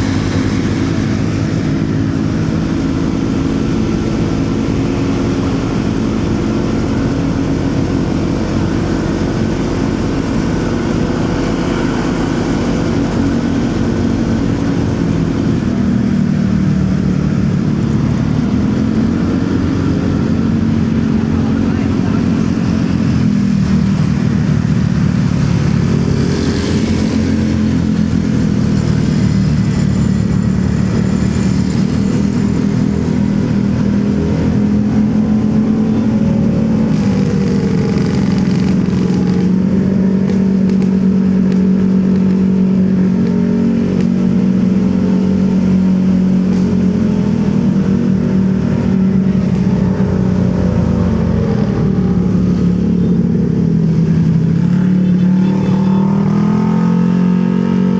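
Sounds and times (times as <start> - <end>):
motorcycle engine revving: 0.0 - 57.9
road and traffic noise: 0.0 - 57.9.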